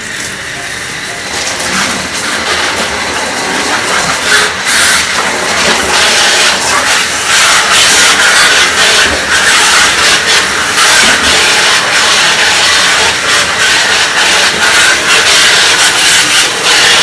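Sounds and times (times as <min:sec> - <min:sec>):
hose spray hissing on metal drum: 0:00.0 - 0:17.0.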